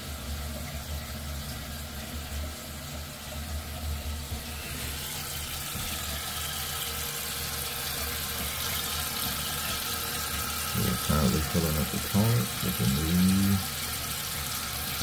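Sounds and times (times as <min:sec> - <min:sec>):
toilet tank refilling: 0:00.0 - 0:15.0.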